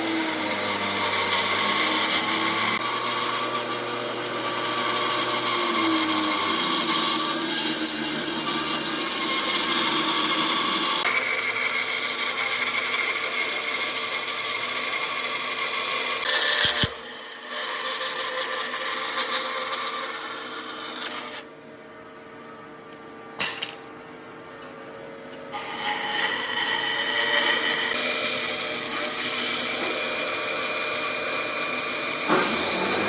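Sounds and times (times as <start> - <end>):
power tool working wood: 0.0 - 21.5, 25.6 - 33.0.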